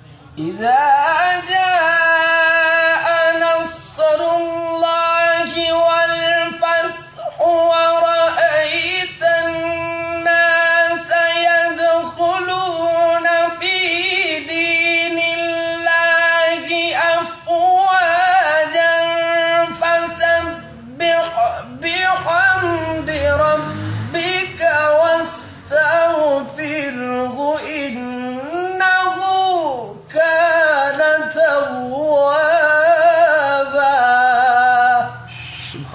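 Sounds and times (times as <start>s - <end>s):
person singing with vibrato: 0.0s - 35.9s.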